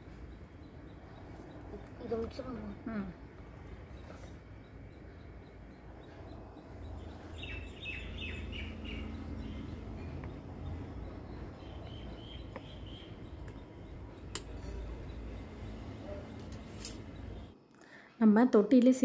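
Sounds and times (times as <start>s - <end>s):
low outdoor rumble: 0.0s - 17.6s
small bird chirping: 0.0s - 17.6s.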